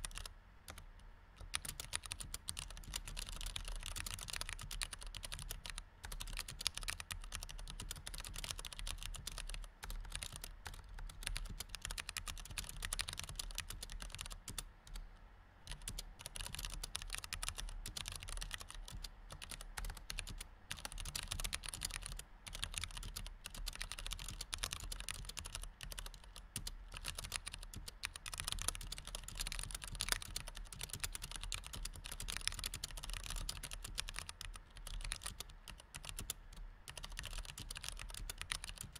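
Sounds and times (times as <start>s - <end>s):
fast typing on keyboard: 0.0s - 0.8s, 1.4s - 15.0s, 15.7s - 38.9s.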